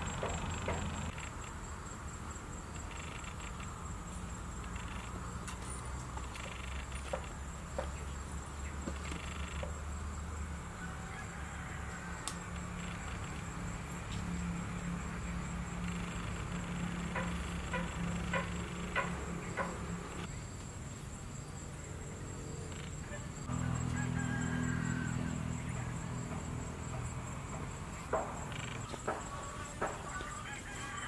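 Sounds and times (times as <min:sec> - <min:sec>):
high insect-like whine: 0:00.0 - 0:31.0.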